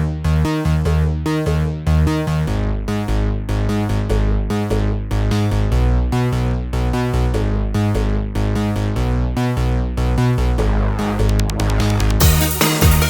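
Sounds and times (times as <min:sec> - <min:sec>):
synthesizer background music: 0:00.0 - 0:13.0.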